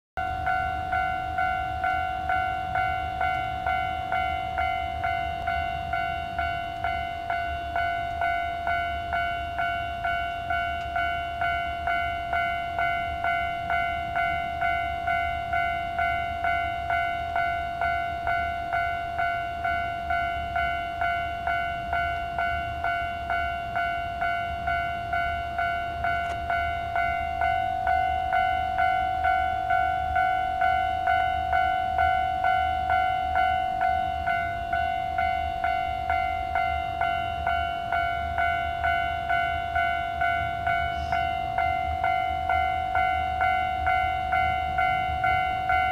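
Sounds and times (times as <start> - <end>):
level crossing warning bell ringing: 0.2 - 45.9.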